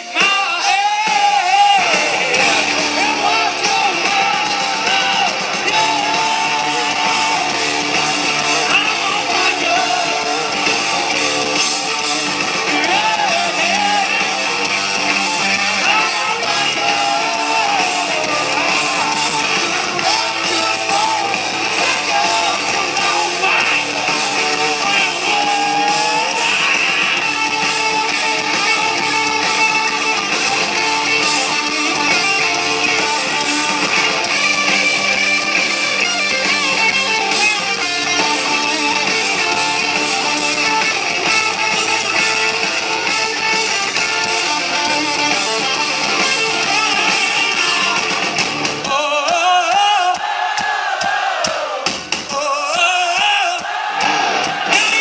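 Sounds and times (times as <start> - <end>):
distorted electric guitar: 0.0 - 49.8, 54.0 - 55.0
bass and drums: 0.0 - 55.0.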